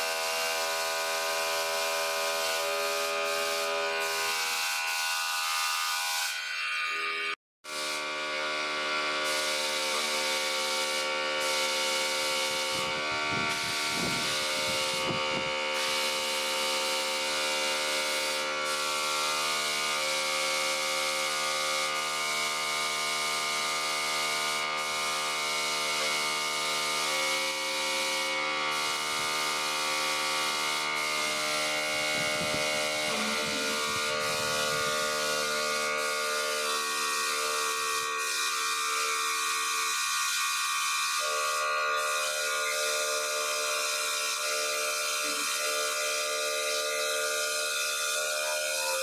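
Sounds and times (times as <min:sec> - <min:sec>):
air compressor humming: 0:00.0 - 0:05.0, 0:07.7 - 0:39.0, 0:41.2 - 0:49.0
spray gun air hiss: 0:00.0 - 0:06.3, 0:07.7 - 0:49.0.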